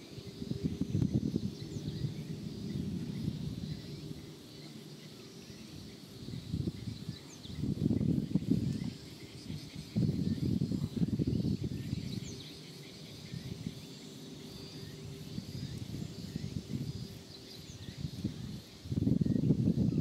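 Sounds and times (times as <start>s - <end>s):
faint insect chirps: 0.0s - 20.0s
insects droning: 0.0s - 20.0s.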